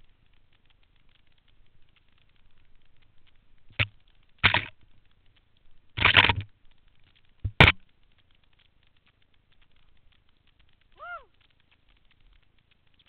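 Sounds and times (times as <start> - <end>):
faint steady crackle: 0.0 - 13.0.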